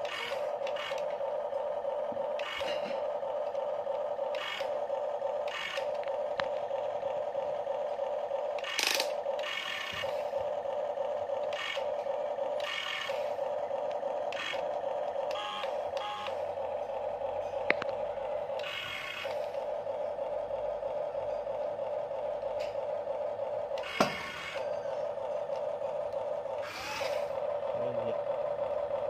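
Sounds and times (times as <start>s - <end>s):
motor whirring bursts: 0.0s - 29.0s
steady electric hum: 0.0s - 29.0s.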